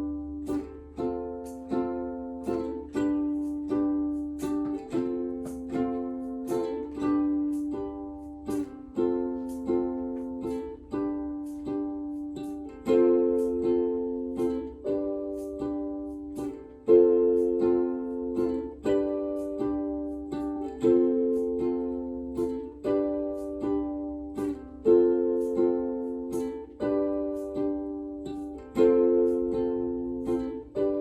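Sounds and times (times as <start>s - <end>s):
strummed string instrument chords: 0.0s - 31.0s.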